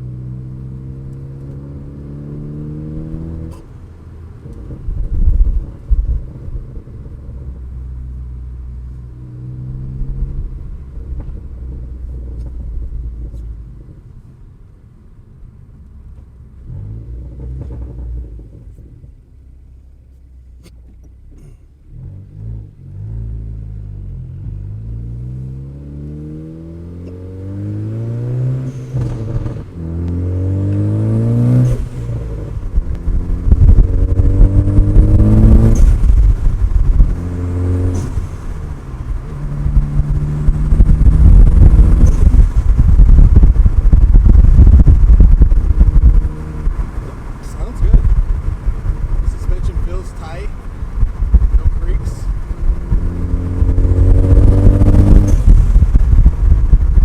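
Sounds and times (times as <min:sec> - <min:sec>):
turbocharged car engine accelerating: 0:00.0 - 0:14.1, 0:20.6 - 0:57.0.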